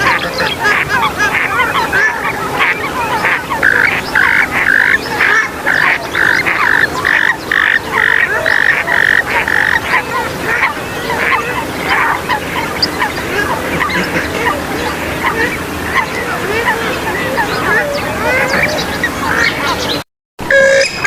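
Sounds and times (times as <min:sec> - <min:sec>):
harsh repeated bird calls: 0:00.0 - 0:21.0
many overlapping bird calls: 0:00.0 - 0:21.0.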